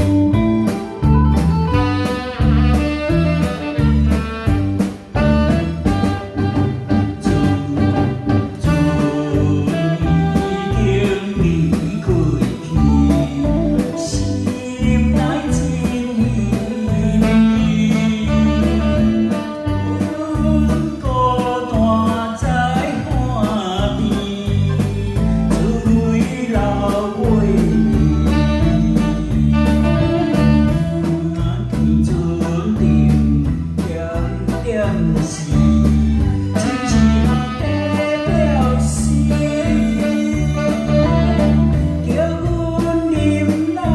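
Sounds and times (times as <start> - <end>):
saxophone: 0.0 - 21.0, 22.8 - 31.7, 35.3 - 42.6
drum kit: 0.0 - 43.9
guitar: 0.0 - 43.9
man singing into a microphone: 6.8 - 43.9.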